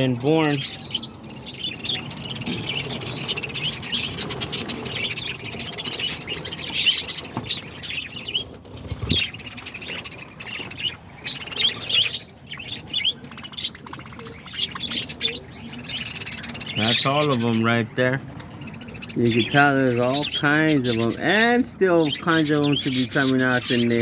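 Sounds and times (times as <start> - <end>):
parakeets chattering: 0.0 - 24.0.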